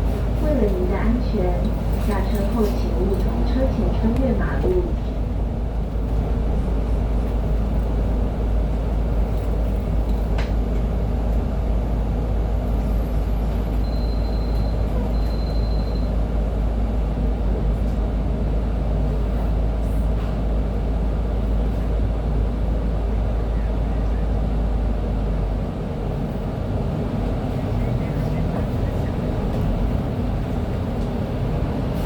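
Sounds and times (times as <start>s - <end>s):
bus interior rumble: 0.0s - 32.0s.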